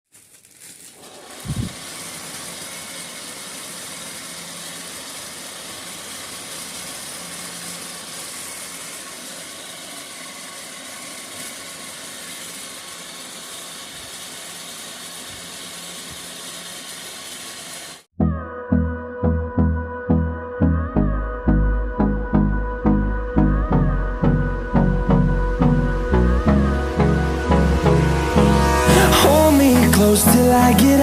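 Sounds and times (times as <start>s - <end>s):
fan motor whirring: 0.6s - 18.1s, 23.4s - 31.0s.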